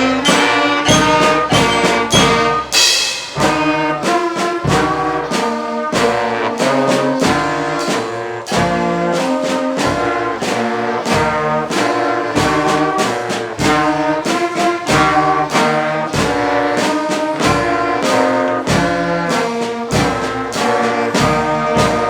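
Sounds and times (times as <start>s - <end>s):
marching band brass: 0.0s - 22.0s
percussion strikes in steady beat: 0.0s - 22.0s.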